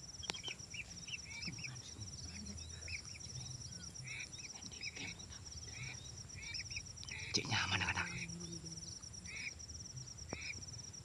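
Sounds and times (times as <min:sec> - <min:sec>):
faint birds whistling: 0:00.0 - 0:11.0
fast insect trill: 0:00.0 - 0:11.0.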